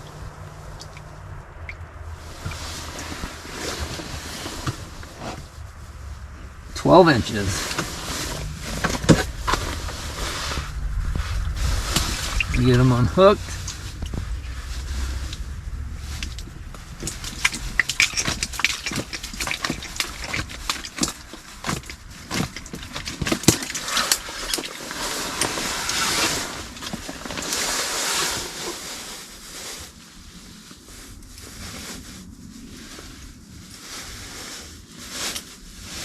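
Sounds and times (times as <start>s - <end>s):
rustling and crunching on ice: 0.0s - 36.0s.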